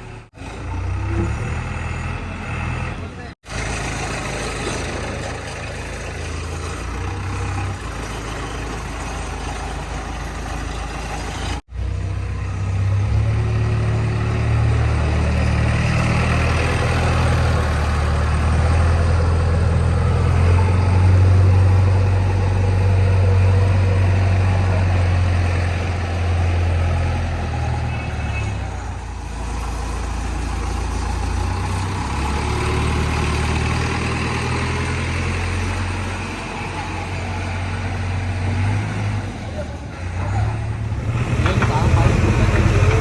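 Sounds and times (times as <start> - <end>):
diesel engine droning: 0.0 - 43.0.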